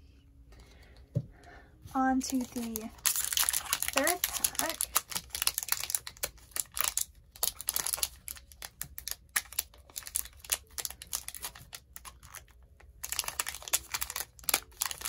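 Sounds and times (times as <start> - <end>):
foil wrapper crinkling: 2.1 - 15.0.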